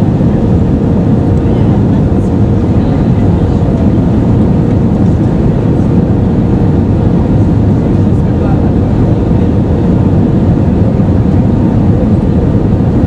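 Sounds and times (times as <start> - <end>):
aircraft cabin engine rumble: 0.0 - 13.0
airflow over fuselage: 0.0 - 13.0
faint steady hum: 0.0 - 13.0.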